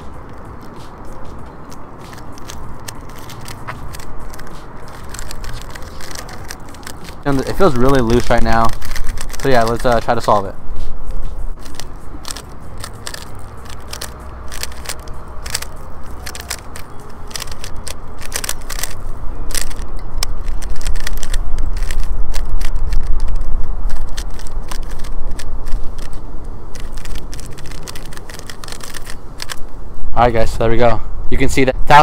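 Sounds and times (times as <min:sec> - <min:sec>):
puzzle cube plastic clicks: 0:01.7 - 0:10.2, 0:11.6 - 0:29.6.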